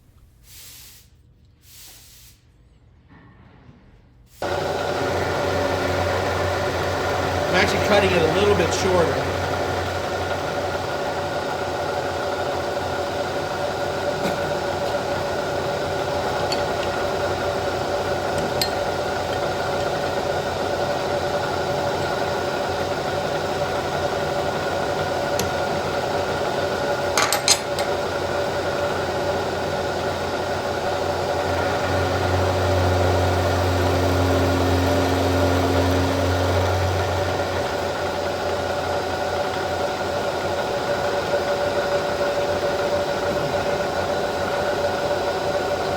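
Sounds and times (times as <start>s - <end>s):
deeper hum: 4.4s - 27.2s, 27.9s - 45.8s
milling machine hum: 4.4s - 45.9s.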